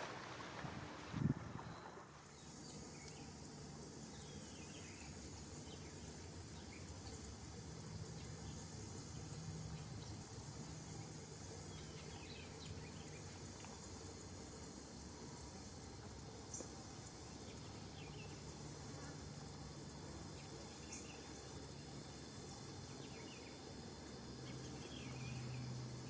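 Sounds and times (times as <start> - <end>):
insects trilling: 1.7 - 26.0.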